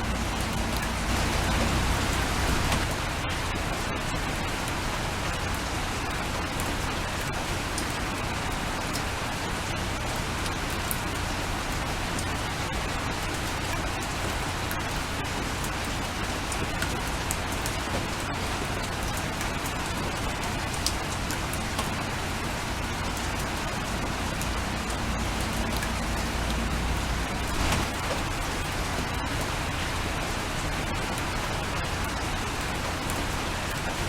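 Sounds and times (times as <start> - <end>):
rain on a window: 0.0 - 34.0.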